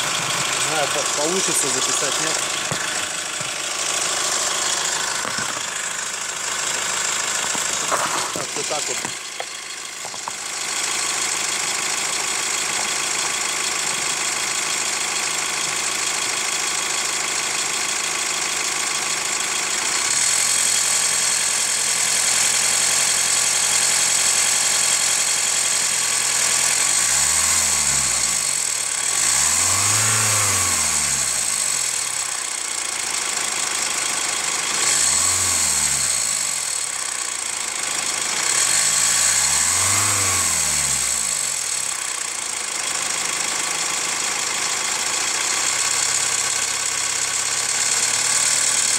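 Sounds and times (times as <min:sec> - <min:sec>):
diesel engine idling and revving: 0:00.0 - 0:48.9
engine crunching knock: 0:00.0 - 0:48.9.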